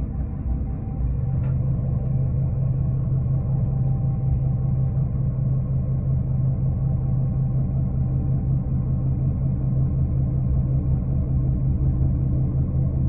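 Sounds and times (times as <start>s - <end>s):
bus engine drone from inside: 0.0s - 13.0s.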